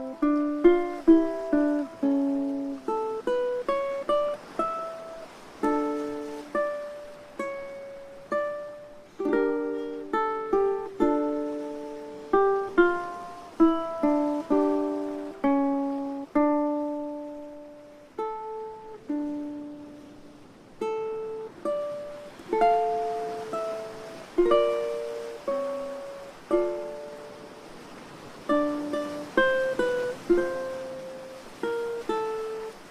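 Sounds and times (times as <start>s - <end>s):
slow ukulele music: 0.0s - 32.9s.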